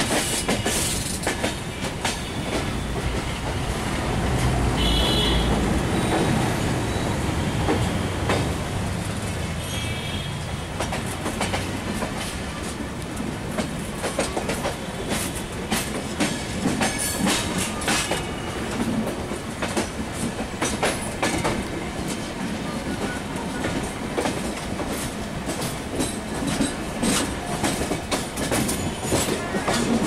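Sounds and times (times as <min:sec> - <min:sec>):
train wheel clicks and clacks: 0:00.0 - 0:06.5, 0:07.6 - 0:09.5, 0:10.4 - 0:30.0
train coaches rumbling: 0:00.0 - 0:30.0.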